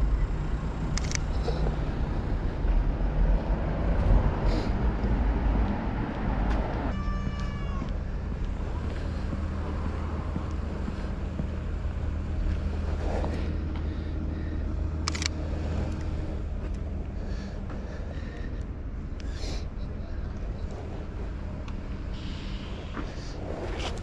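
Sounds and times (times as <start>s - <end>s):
city traffic hum: 0.0s - 24.0s.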